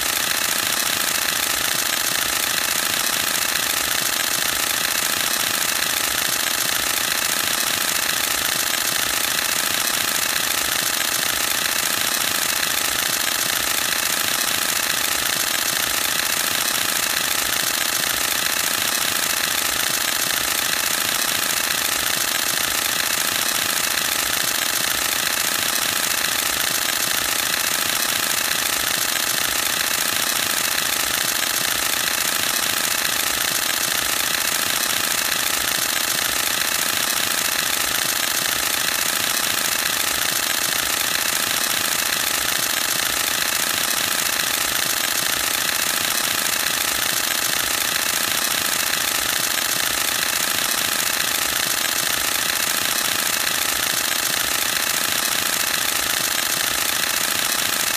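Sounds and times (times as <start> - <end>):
camera shutter burst rattle: 0.0 - 57.9.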